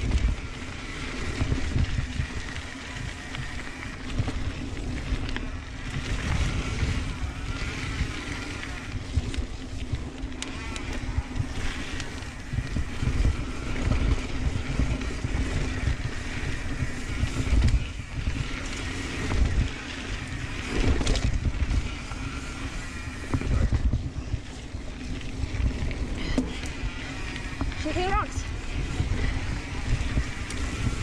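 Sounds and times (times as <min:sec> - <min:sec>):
bike tyre roar and rattle: 0:00.0 - 0:31.0
wind buffeting microphone: 0:00.0 - 0:31.0.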